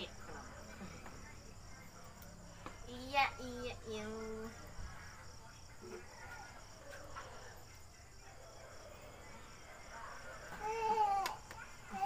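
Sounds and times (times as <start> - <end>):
cricket chirping: 0.0 - 12.0
faint voices: 0.0 - 12.0.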